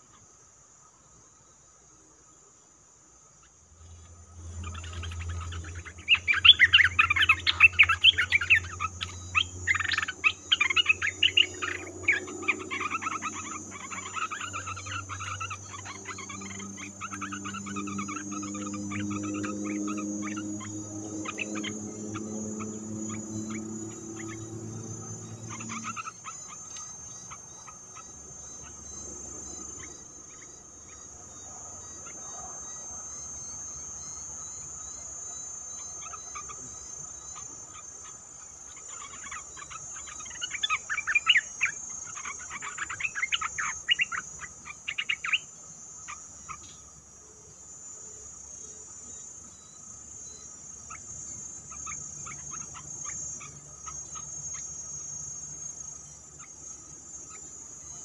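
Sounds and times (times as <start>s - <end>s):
high insect buzz: 0.0s - 58.0s
bird chirping calls: 3.4s - 47.4s, 48.1s - 58.0s.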